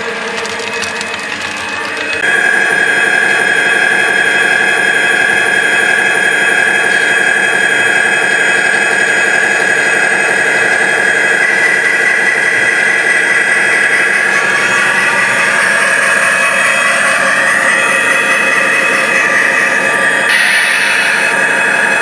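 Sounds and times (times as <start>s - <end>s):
model locomotives whining: 0.0s - 22.0s.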